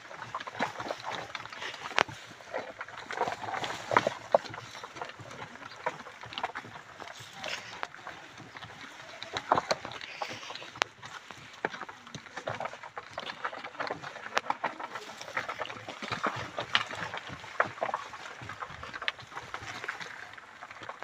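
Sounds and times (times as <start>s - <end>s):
hooves clip-clopping on dirt: 0.0s - 21.0s
wooden cart knocking: 0.0s - 21.0s.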